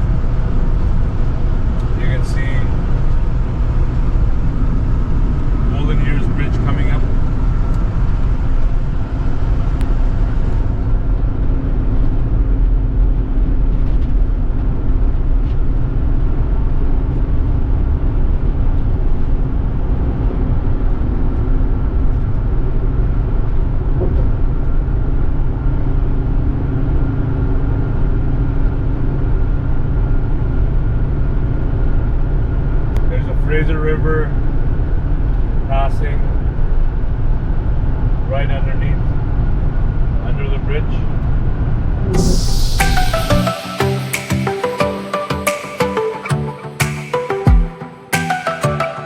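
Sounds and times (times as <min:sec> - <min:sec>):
car road rumble: 0:00.0 - 0:42.4.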